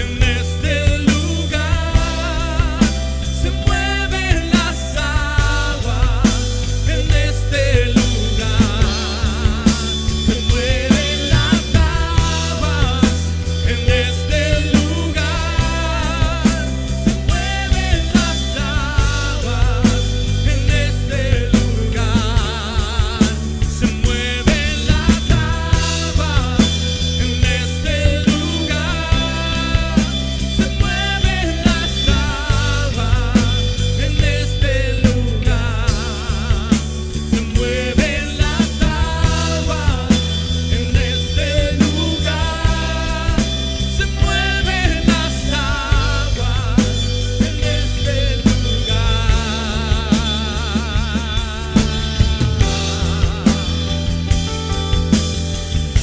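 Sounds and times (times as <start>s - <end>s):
drum kit beats: 0.0s - 56.0s
live rock band playing: 0.0s - 56.0s.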